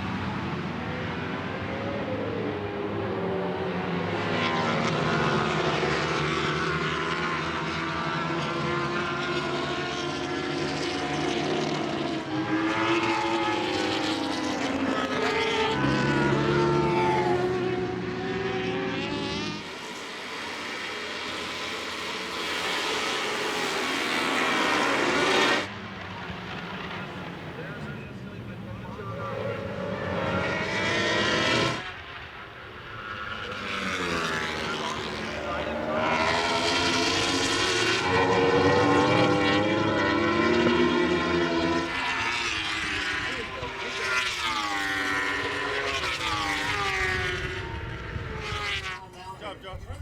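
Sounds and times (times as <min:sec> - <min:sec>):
racing motorcycle engines revving: 0:00.0 - 0:50.0.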